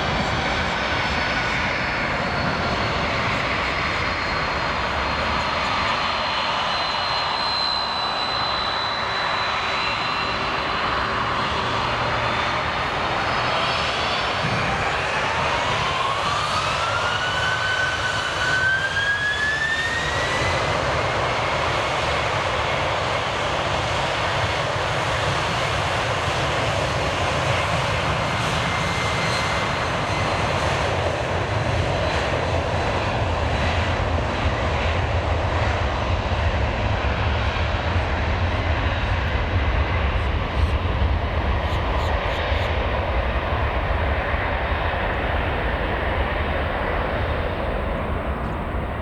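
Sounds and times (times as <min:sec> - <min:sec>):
jet engines whining and roaring: 0:00.0 - 0:49.0.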